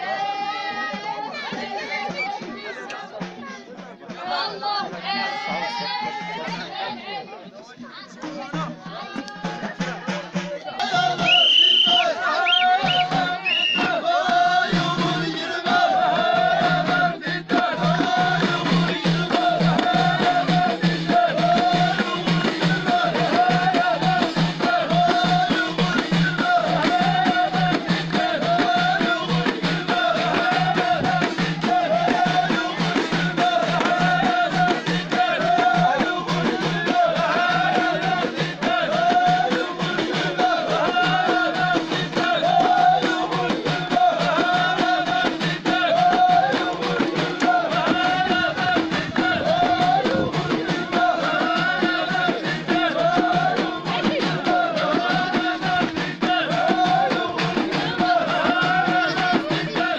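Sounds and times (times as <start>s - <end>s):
rhythmic hand-clapping: 0.0s - 6.8s, 8.0s - 59.9s
drumming: 0.0s - 7.0s, 7.8s - 59.9s
group of voices singing: 0.0s - 59.9s.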